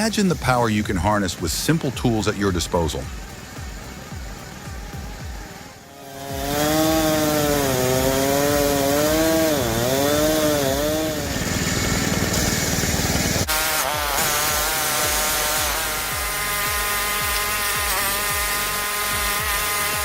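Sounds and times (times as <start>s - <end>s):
chainsaw cutting wood: 0.0s - 20.0s
music beat: 0.0s - 20.0s.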